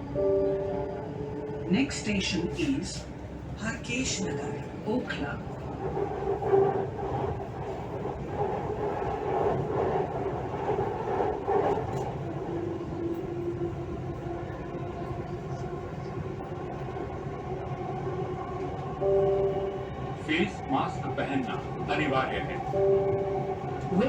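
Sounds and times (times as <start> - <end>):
train rumble with humming whine: 0.0 - 24.0.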